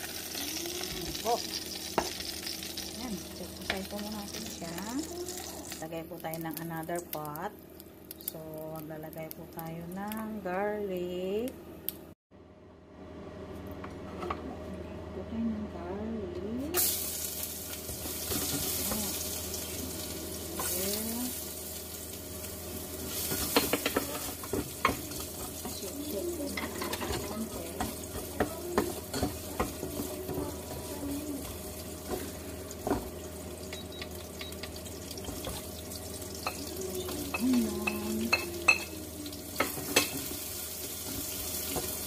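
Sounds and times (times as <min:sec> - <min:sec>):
garlic sizzling in oil: 0:00.0 - 0:09.5, 0:16.8 - 0:42.0.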